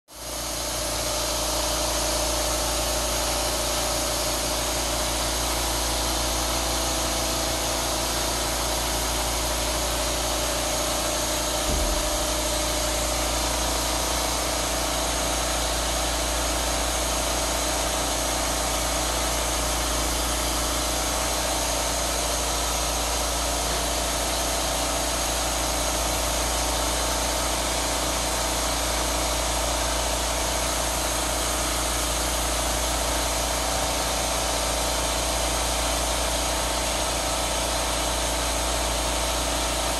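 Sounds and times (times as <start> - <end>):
blower whirring and humming: 0.1 - 39.9.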